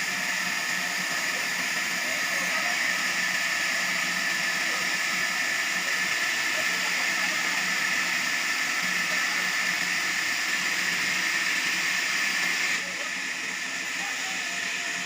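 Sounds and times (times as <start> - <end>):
saw cutting through log: 0.0 - 15.0.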